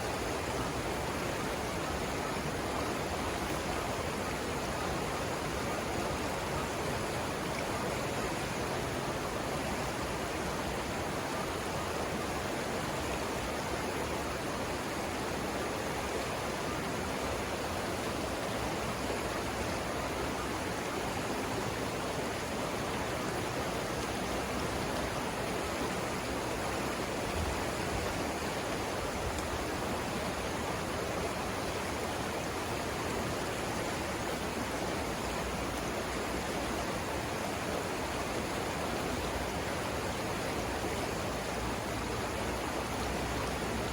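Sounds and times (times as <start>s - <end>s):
river rushing: 0.0s - 43.9s.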